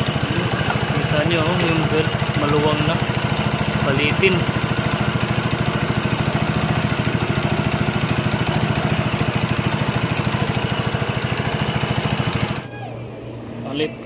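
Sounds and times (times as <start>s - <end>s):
drive belt slapping: 0.0s - 12.7s
scooter engine idling: 0.0s - 12.7s.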